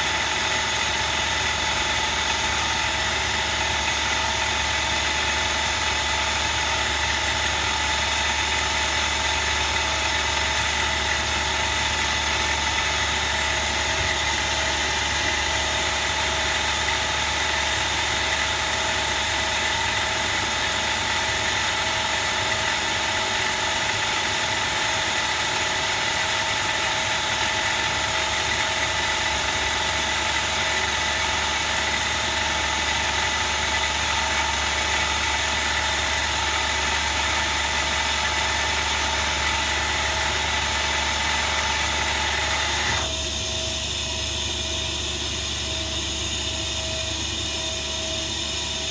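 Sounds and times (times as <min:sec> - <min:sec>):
high-pitched machine whines: 0:00.0 - 0:48.9.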